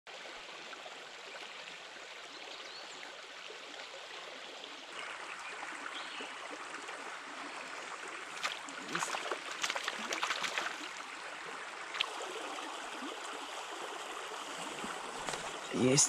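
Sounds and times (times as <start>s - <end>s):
forest stream flowing: 0.1s - 16.0s.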